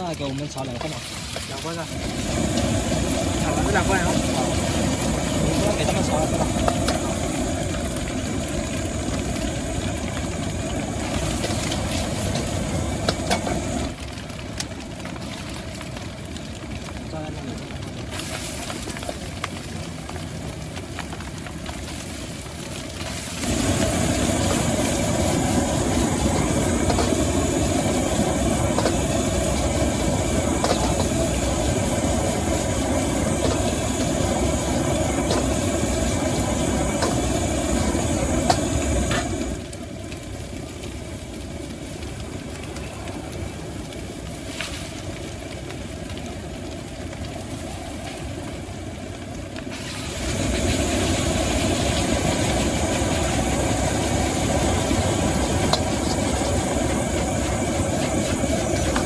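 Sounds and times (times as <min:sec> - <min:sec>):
gas burner hissing: 0:00.0 - 0:15.2, 0:17.1 - 0:59.0.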